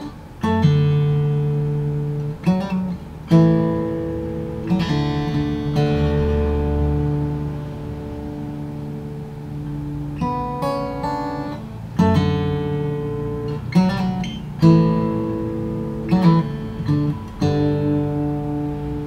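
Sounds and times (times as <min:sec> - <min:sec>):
acoustic guitar picked notes and chords: 0:00.0 - 0:19.0.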